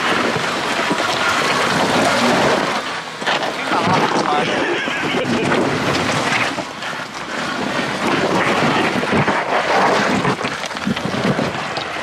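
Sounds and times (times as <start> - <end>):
off-road vehicle engine: 0.0 - 12.0
wind buffeting microphone: 0.0 - 12.0.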